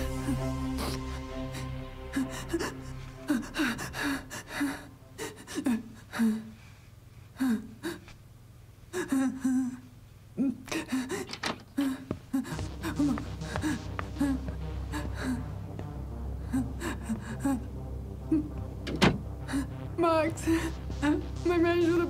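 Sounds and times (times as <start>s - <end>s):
woman sobbing: 0.0s - 6.6s, 8.9s - 15.6s, 16.4s - 18.7s, 19.4s - 22.0s.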